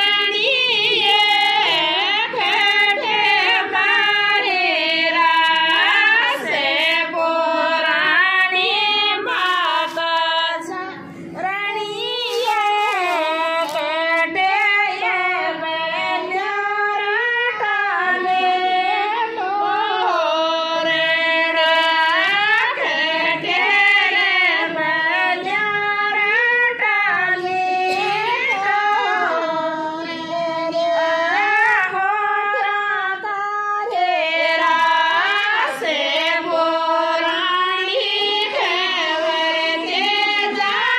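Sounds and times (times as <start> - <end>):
women singing in high voices: 0.0 - 40.9.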